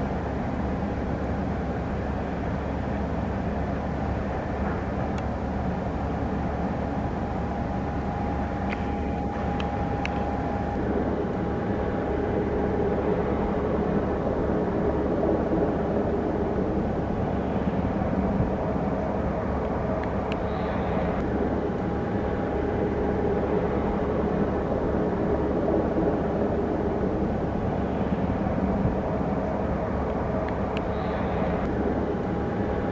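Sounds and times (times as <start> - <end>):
helicopter turbine whine: 0.0 - 32.9
low rumble of rotors: 0.0 - 32.9.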